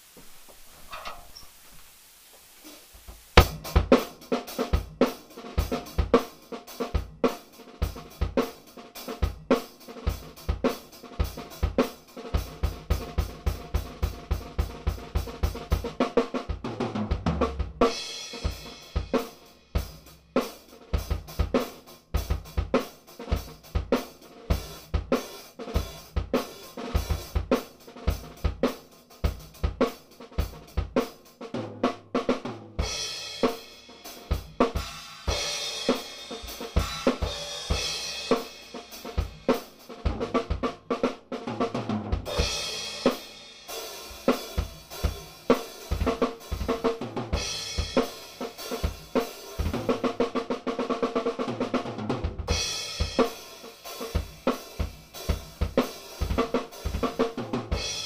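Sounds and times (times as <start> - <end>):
hi-hat and cymbal hits: 2.6 - 16.1, 17.8 - 31.4, 32.8 - 40.6, 42.2 - 50.2, 52.5 - 58.0
snare and tom fills: 2.6 - 58.0.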